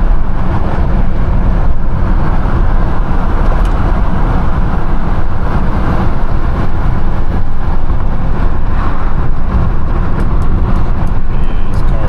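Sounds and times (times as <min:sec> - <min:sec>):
road noise: 0:00.0 - 0:12.0
wind rushing on microphone: 0:00.0 - 0:12.0.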